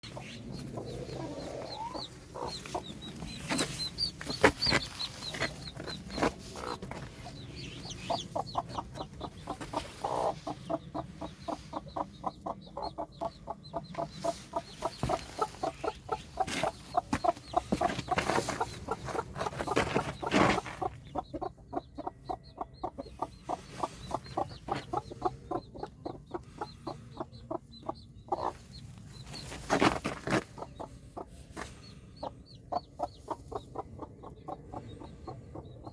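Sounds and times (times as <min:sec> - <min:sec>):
chicks peeping: 0:00.0 - 0:35.9
hen clucking: 0:00.0 - 0:35.9.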